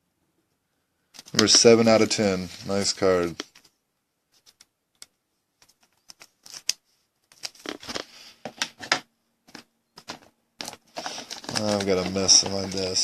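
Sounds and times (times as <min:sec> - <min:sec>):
cards and plastic packaging rustling: 0:01.1 - 0:04.7, 0:05.6 - 0:13.0.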